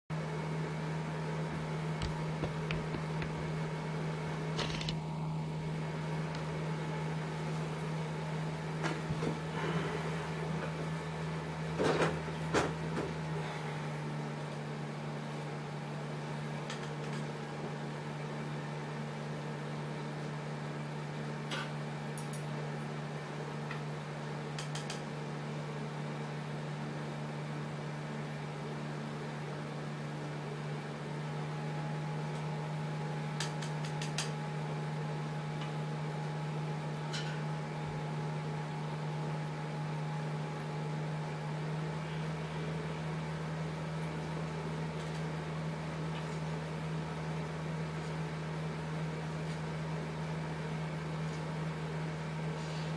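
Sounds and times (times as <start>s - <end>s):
aquarium equipment humming: 0.1s - 52.9s.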